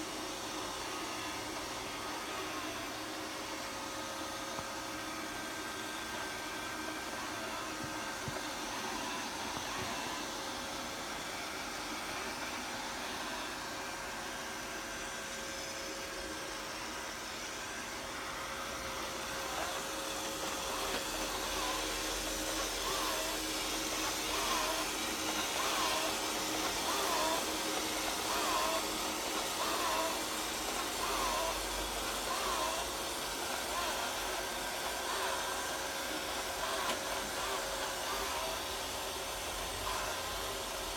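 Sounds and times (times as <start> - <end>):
robot vacuum whirring hum: 0.0 - 40.9.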